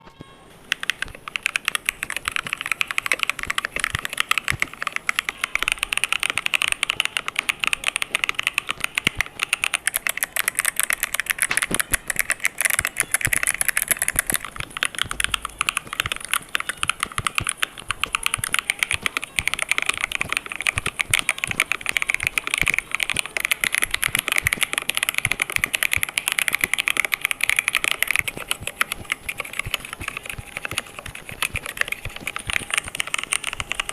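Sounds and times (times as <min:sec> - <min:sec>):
fast mechanical keyboard typing: 0:00.0 - 0:33.9.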